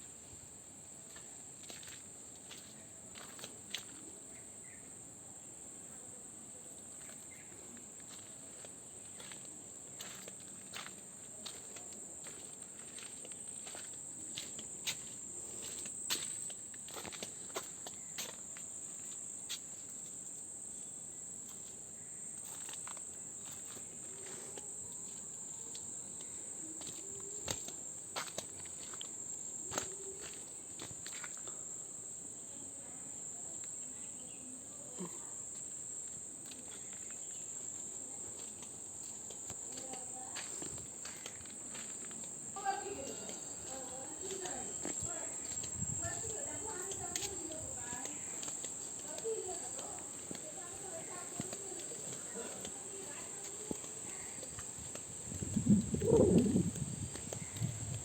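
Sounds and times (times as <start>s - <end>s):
insect chorus chirring: 0.0s - 58.0s.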